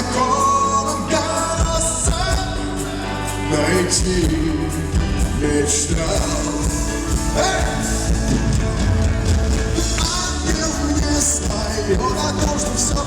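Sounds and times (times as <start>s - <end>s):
band playing: 0.0s - 13.0s
man singing pop ballad: 0.0s - 13.0s.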